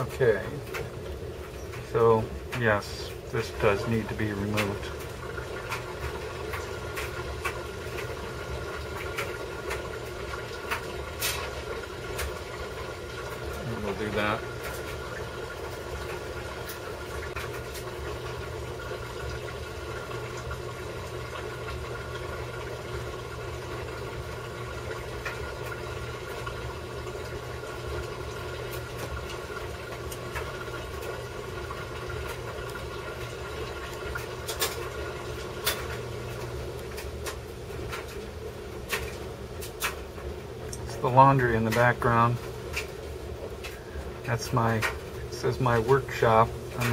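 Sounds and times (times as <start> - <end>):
laundry machine humming: 0.0 - 46.9.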